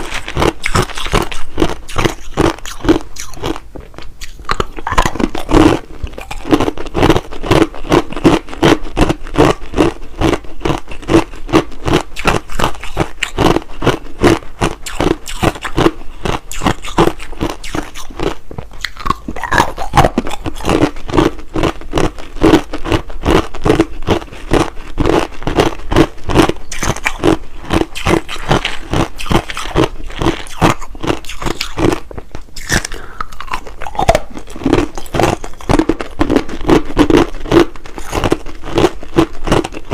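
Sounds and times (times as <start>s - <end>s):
person crunching ice: 0.0s - 39.9s.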